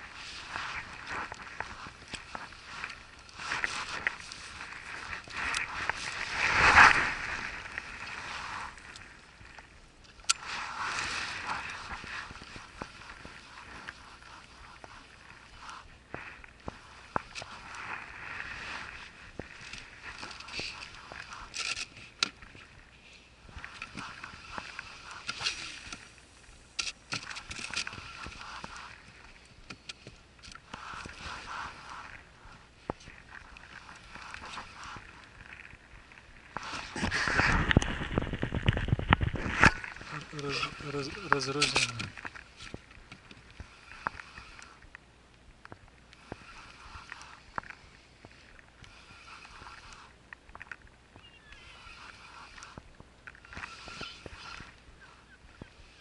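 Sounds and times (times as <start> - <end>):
fishing rod handling rustle: 0.0 - 45.0, 45.6 - 56.0
water lapping against a boat: 0.0 - 56.0.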